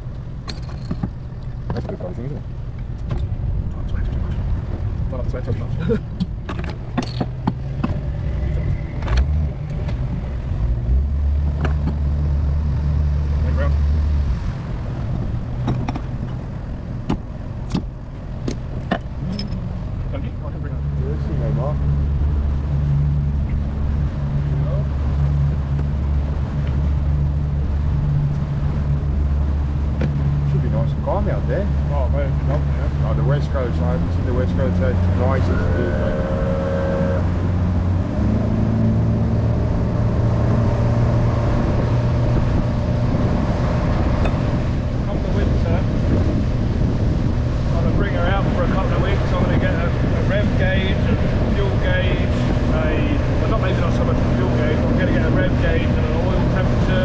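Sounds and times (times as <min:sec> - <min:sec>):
boat engine running: 0:00.0 - 0:57.0
rushing wind: 0:00.0 - 0:57.0
water noise: 0:00.0 - 0:57.0.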